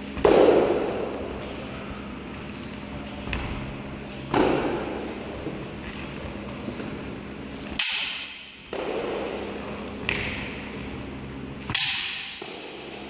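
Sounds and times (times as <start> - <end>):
heavy thuds echoing in hall: 0.0 - 13.0.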